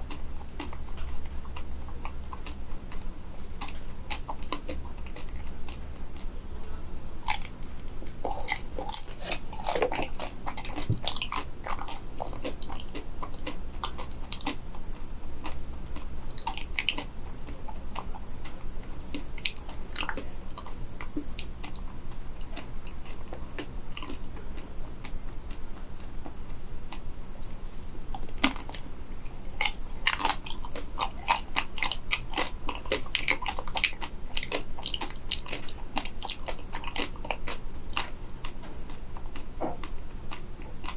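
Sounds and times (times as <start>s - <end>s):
chocolate shell crunching: 0.0s - 24.3s, 27.6s - 40.9s
chewing clicks: 0.0s - 27.0s, 27.6s - 40.9s.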